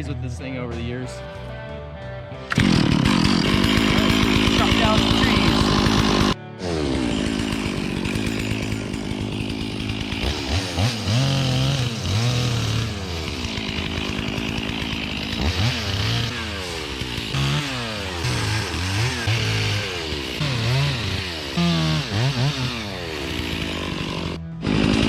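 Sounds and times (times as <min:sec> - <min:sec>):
chainsaw revving and cutting: 0:02.5 - 0:25.0.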